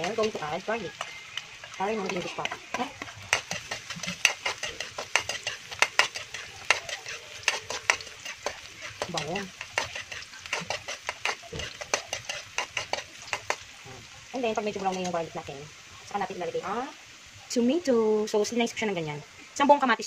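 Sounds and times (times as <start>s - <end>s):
onion frying in oil: 0.0s - 20.0s.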